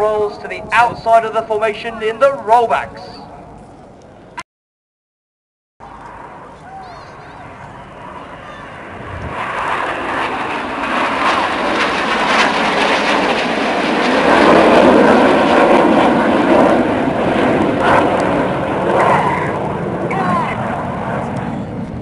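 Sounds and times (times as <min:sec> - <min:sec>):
jets flying past roaring: 0:00.0 - 0:04.4, 0:05.8 - 0:22.0.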